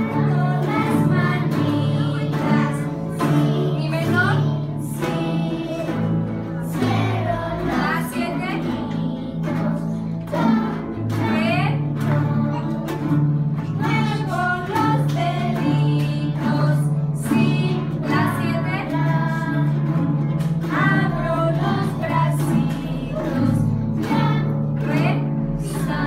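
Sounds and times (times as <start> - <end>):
acoustic guitars strumming: 0.0 - 26.0
children singing: 0.0 - 26.0.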